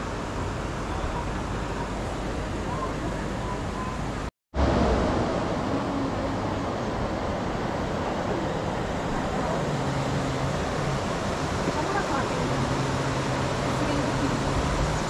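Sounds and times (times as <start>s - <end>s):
outdoor rushing background noise: 0.0s - 15.0s.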